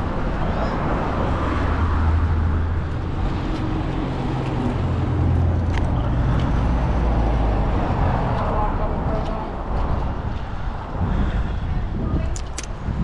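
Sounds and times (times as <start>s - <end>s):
road traffic rumble: 0.0s - 13.0s
vehicle engine hum: 0.0s - 13.0s.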